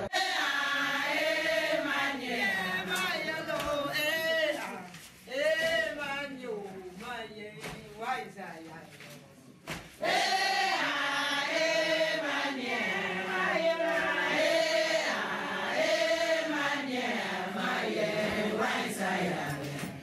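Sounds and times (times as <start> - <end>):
group singing together: 0.0 - 6.4, 10.0 - 20.0.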